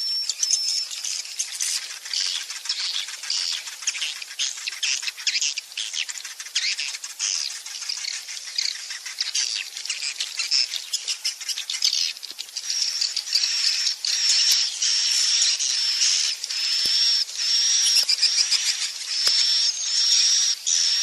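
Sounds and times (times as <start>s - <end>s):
high buzzing twitter: 0.0s - 21.0s
swiftlets twittering and chirping: 0.0s - 21.0s.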